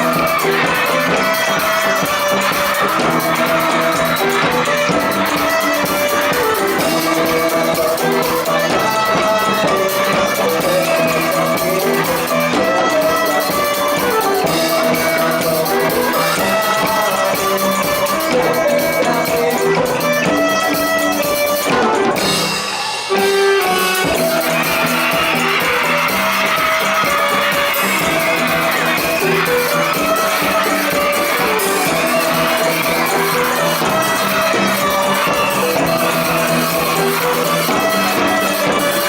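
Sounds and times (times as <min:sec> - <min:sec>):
marimba band playing: 0:00.0 - 0:39.0.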